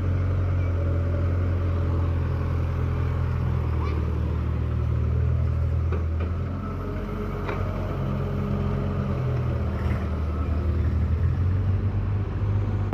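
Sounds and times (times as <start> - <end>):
diesel engine under load: 0.0 - 12.9.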